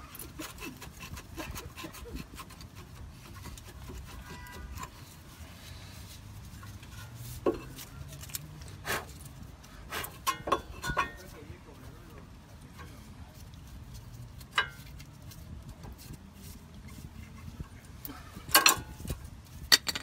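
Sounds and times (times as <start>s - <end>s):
metal scraping on metal: 0.0s - 11.5s, 12.6s - 20.0s.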